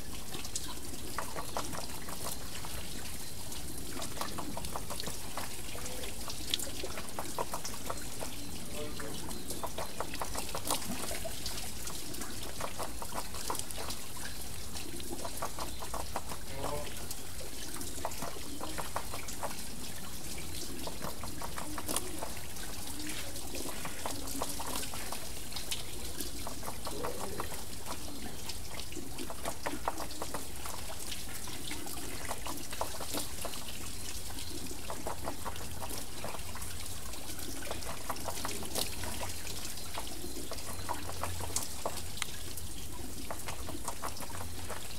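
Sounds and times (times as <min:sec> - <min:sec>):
small splashes and drips: 0:00.0 - 0:44.9
water pouring and trickling: 0:00.0 - 0:44.9
water wheel turning: 0:00.0 - 0:44.9.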